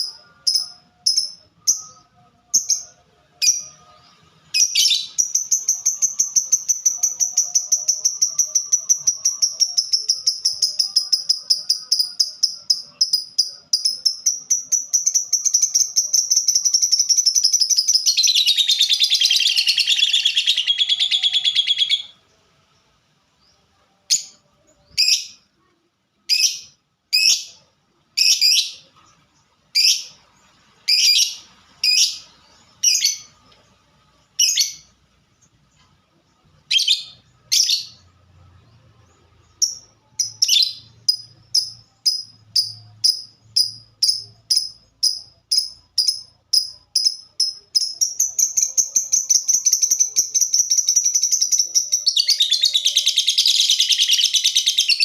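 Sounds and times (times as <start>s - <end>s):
lovebird chirping: 0.0s - 55.0s.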